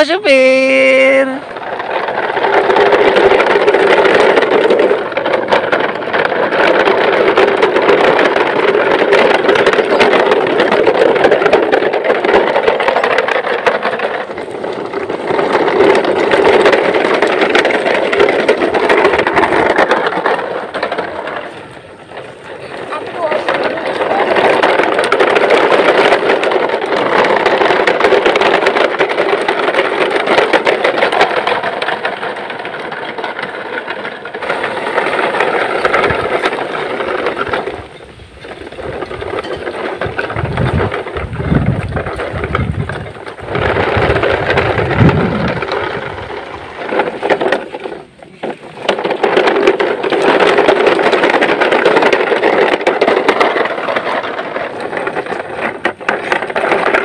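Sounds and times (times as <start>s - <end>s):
low rumbling: 0.0s - 57.0s
toy truck wheels rattling on stones: 0.0s - 57.0s.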